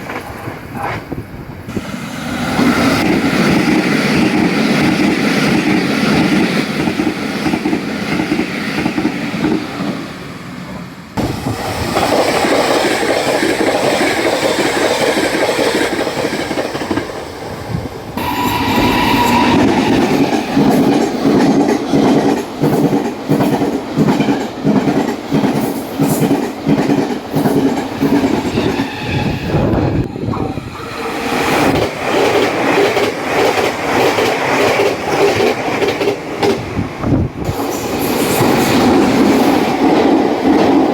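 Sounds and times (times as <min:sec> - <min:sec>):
train passing at high speed: 0:00.0 - 0:40.9.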